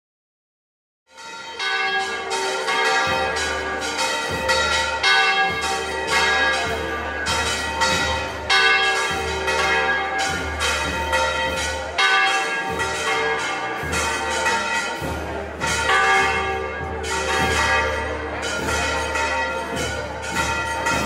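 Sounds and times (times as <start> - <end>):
church bells pealing: 1.1 - 21.0.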